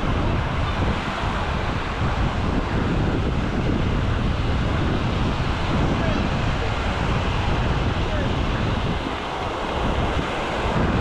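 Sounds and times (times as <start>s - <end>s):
surf washing up a beach: 0.0s - 11.0s
wind rumbling on microphone: 0.0s - 11.0s.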